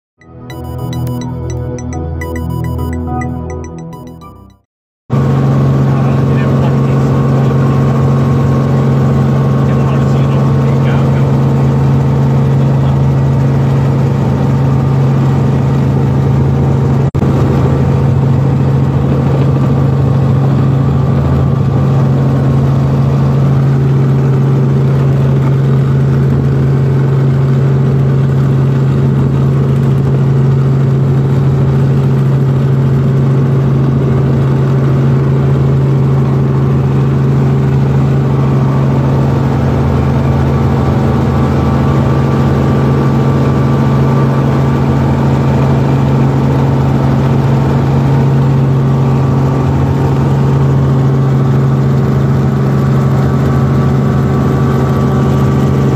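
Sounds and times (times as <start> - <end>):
helicopter engine and rotor drone: 5.2 - 55.9.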